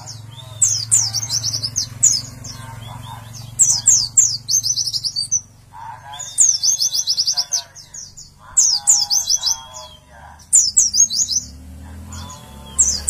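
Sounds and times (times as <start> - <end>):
lower warbling: 0.0 - 13.0
small bird singing trills: 0.0 - 13.0.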